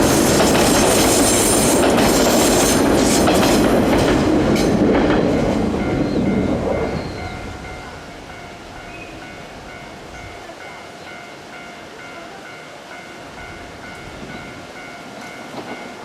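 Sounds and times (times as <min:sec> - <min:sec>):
electric train wheels clattering: 0:00.0 - 0:10.5, 0:13.4 - 0:16.0.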